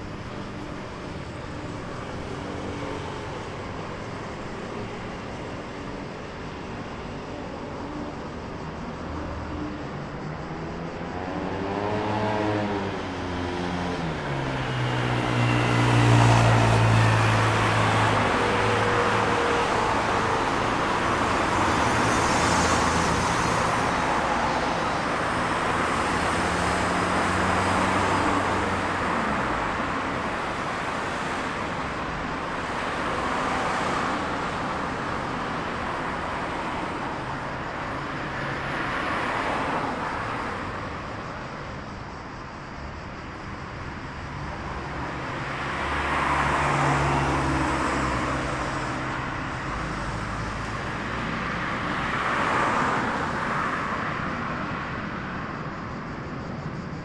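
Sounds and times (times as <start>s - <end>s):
cars passing: 8.1s - 57.0s.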